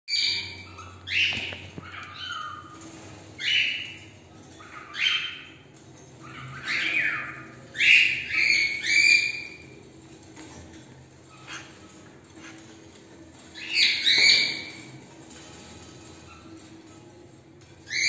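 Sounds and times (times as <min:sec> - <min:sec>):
cockatiels chirping: 0:00.1 - 0:09.8, 0:11.3 - 0:17.0, 0:17.6 - 0:18.0.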